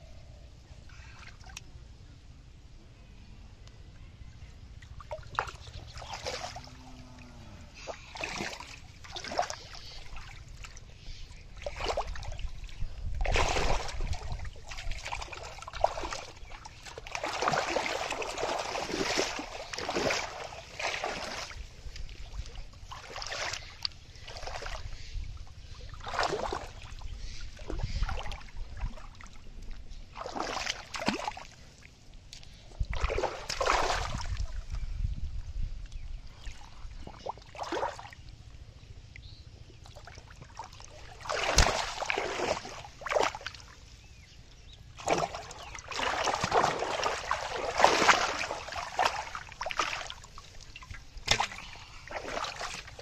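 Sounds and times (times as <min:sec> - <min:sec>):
muddy water splashing: 0:04.8 - 0:34.8, 0:36.0 - 0:53.0.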